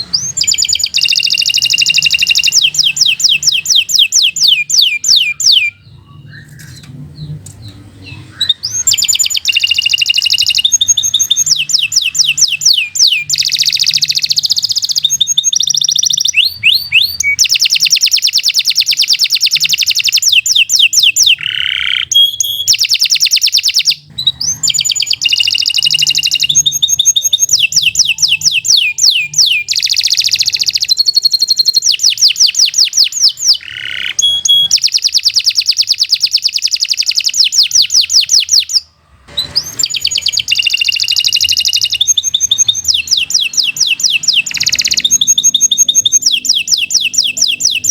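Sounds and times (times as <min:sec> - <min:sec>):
canary singing trills: 0:00.0 - 0:47.9.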